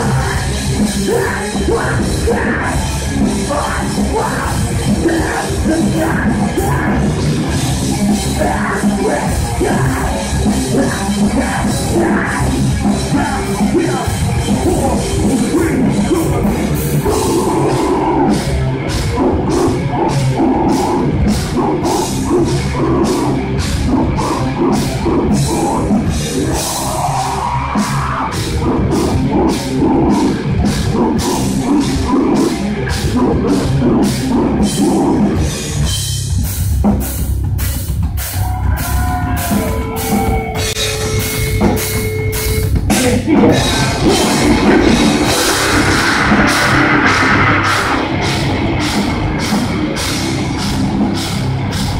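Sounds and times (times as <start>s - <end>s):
drum kit: 0.0s - 51.9s
heavy metal band playing live: 0.0s - 51.9s.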